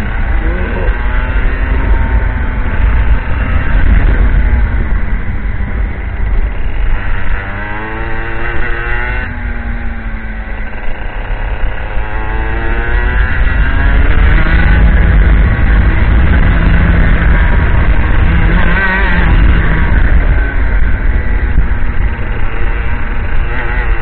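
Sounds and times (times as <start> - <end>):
kart engine running hard: 0.0 - 24.0.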